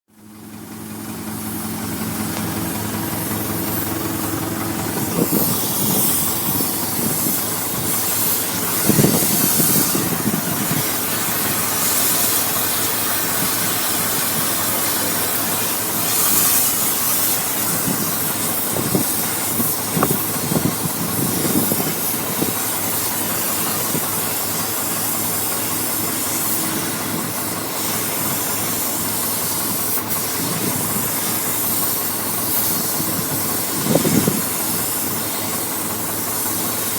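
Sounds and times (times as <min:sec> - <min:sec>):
engine idling: 0:00.1 - 0:36.9
cutting torch hissing: 0:00.3 - 0:36.9
torch crackling: 0:01.4 - 0:36.9.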